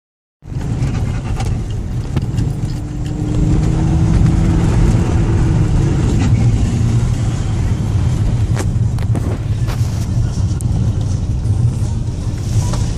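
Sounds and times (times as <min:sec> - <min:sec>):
diesel engine running: 0:00.4 - 0:12.9.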